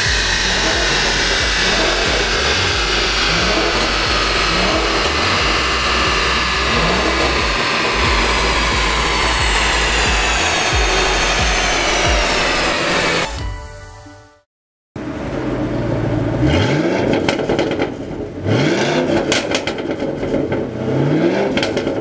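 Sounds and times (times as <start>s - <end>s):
car engine on dynamometer: 0.0s - 13.4s, 15.0s - 22.0s
high supercharger whine: 0.0s - 13.5s, 15.0s - 22.0s.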